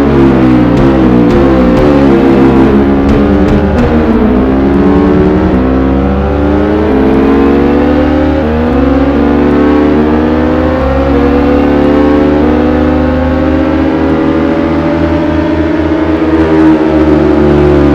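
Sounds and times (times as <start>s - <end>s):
motorcycle engine accelerating: 0.0s - 17.9s.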